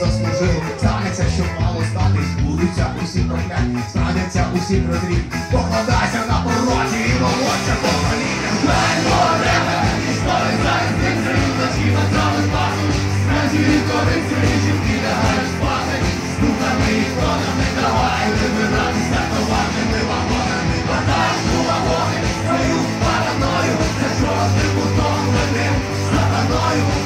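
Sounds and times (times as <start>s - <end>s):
drums: 0.0s - 27.0s
keyboard: 0.0s - 27.0s
live rock band playing: 0.0s - 27.0s
steady bass line: 0.0s - 27.0s.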